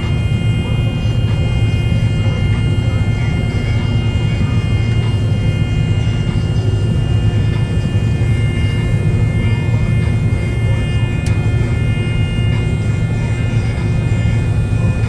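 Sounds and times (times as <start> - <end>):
high whining tones: 0.0 - 15.0
low engine drone: 0.0 - 15.0.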